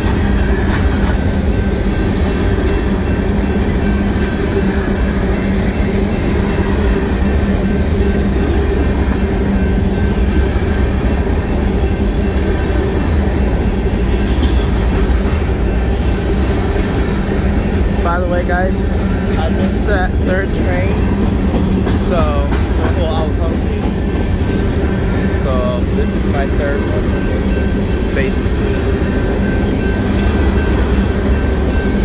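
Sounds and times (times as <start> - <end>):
freight train rolling past: 0.0 - 32.0
wheels clattering over rail joints: 0.0 - 32.0.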